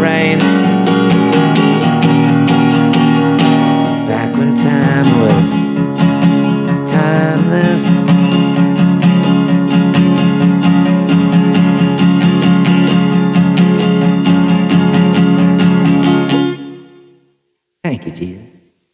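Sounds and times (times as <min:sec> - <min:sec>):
acoustic guitar strumming chords: 0:00.0 - 0:17.3.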